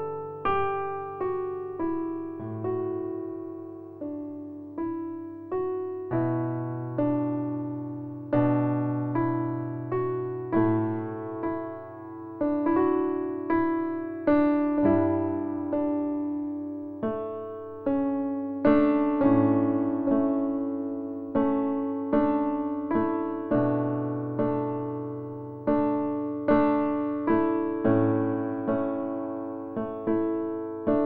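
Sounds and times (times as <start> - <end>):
gentle electric piano: 0.0 - 31.0.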